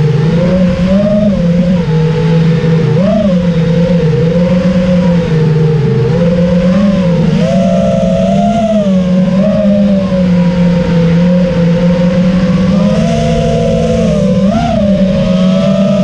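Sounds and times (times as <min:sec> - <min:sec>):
drone motors and propellers whining: 0:00.0 - 0:16.0.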